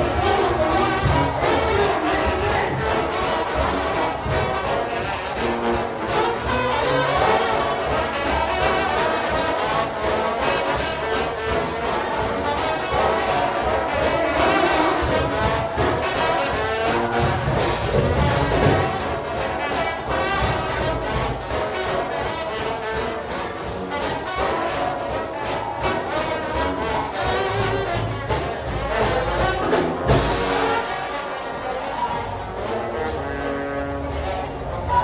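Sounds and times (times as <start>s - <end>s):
brass band playing gospel music: 0.0s - 35.0s
driving percussion beat: 0.0s - 35.0s.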